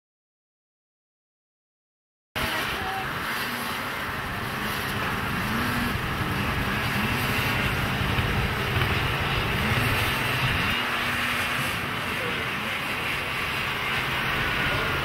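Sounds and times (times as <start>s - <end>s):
snowmobile engines revving: 2.4s - 15.0s.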